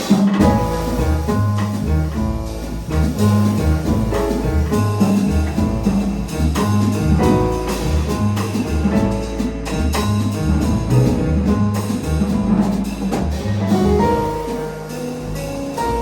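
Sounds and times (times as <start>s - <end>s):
drum kit and cymbals: 0.0s - 16.0s
piano chords: 0.0s - 16.0s
bass line: 0.4s - 16.0s.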